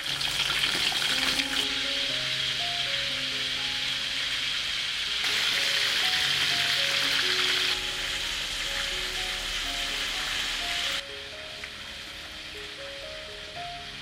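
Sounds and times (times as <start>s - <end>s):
food deep-frying in oil: 0.0s - 14.0s
soft slow background music: 0.0s - 14.0s.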